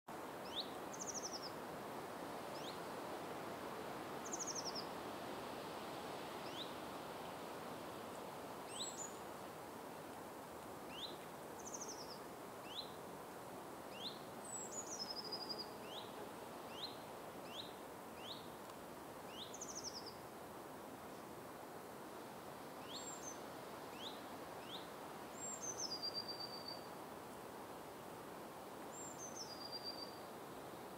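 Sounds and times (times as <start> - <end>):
faint background hiss: 0.1 - 30.9.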